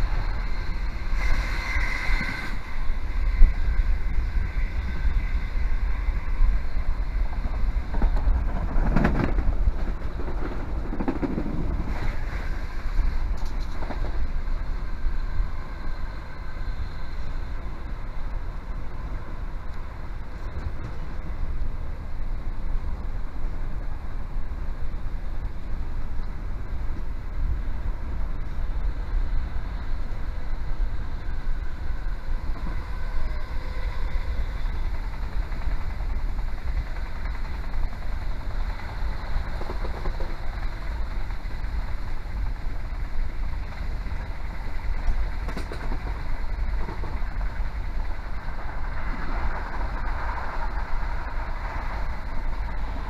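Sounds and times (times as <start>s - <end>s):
train rumbling on track: 0.0s - 53.0s.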